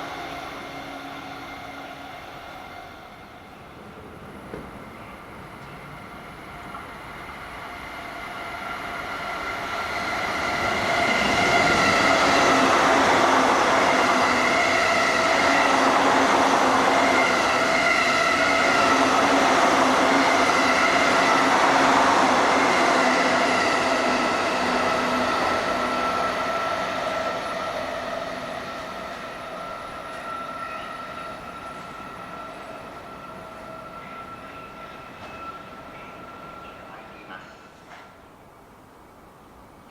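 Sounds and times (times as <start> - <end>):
electric train whine: 0.0 - 39.9.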